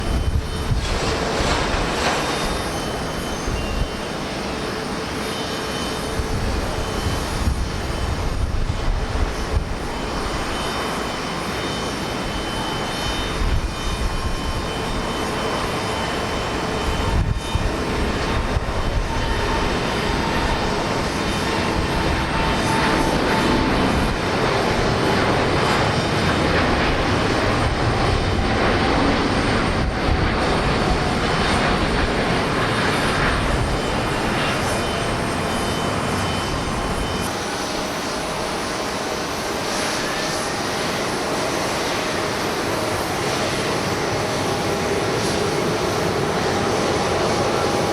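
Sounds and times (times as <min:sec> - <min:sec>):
wind buffeting microphone: 0:00.0 - 0:04.8, 0:06.0 - 0:11.4, 0:12.1 - 0:47.9
jet engines at takeoff: 0:00.0 - 0:47.9.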